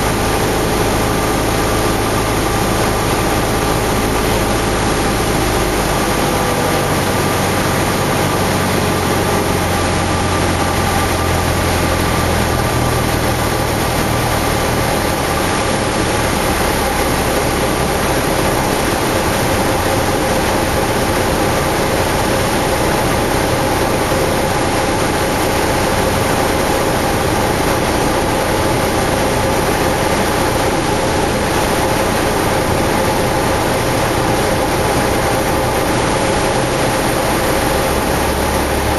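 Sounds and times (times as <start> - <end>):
aircraft engine drone: 0.0 - 38.9
rushing air noise: 0.0 - 38.9.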